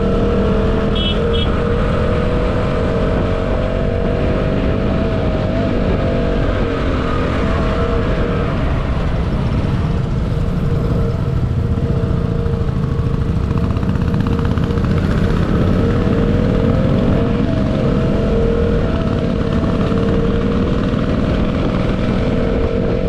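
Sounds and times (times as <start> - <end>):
motorcycle engine running: 0.0 - 23.0
wind rumble on microphone: 1.5 - 23.0.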